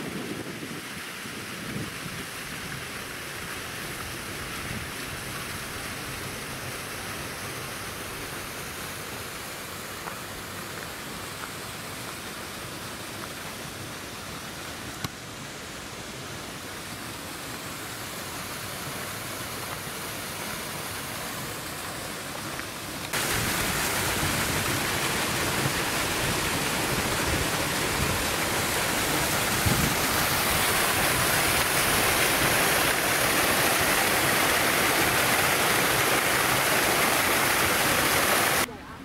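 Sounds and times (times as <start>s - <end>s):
running and falling water: 0.0s - 38.8s.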